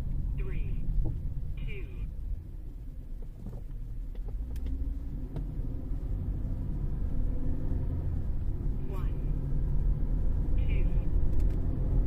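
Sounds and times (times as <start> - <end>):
car cabin rumble: 0.0 - 12.0
engine and driveline hum: 0.0 - 12.0.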